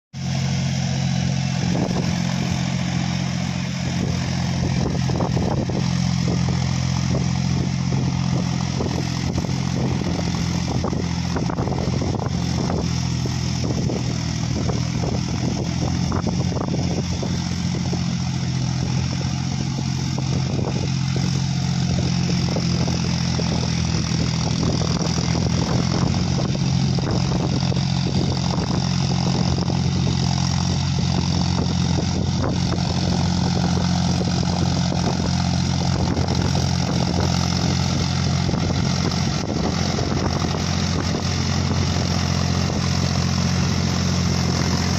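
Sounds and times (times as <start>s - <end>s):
tractor diesel engine running: 0.1s - 44.9s.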